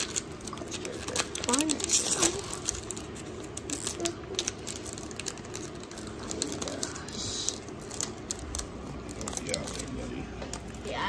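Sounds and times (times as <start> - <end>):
foil wrapper crinkling: 0.0 - 11.0
trading cards rustling: 0.0 - 11.0.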